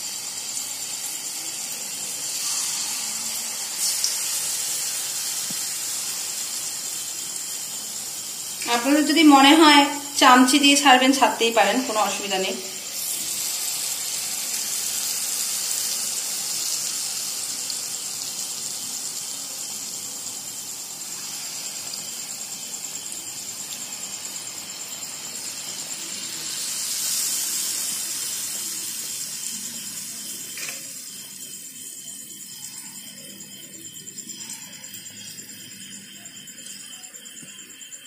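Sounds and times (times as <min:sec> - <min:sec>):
fritters sizzling in hot oil: 0:00.0 - 0:38.0.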